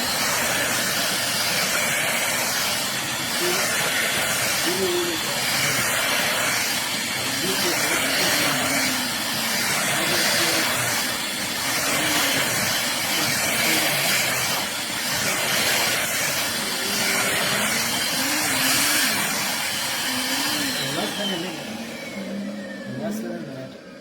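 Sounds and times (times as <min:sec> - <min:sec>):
stick vacuum running over rug: 0:00.0 - 0:24.0.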